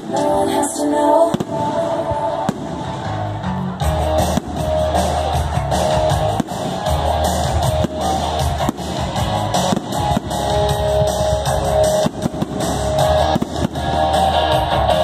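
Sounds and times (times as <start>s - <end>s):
fireworks bursting: 0.0s - 3.4s, 4.0s - 15.0s
guitar music with bass line: 2.1s - 15.0s.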